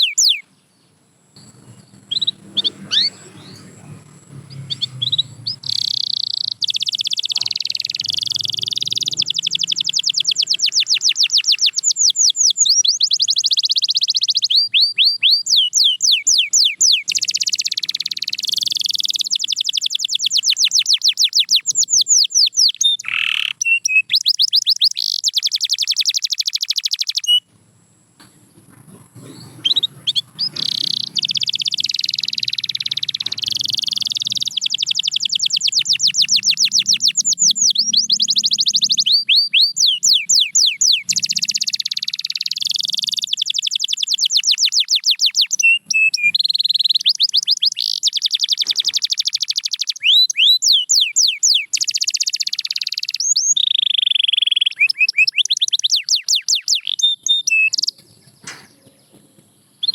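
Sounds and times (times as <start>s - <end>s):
canary singing trills: 0.0s - 27.6s, 28.2s - 59.9s.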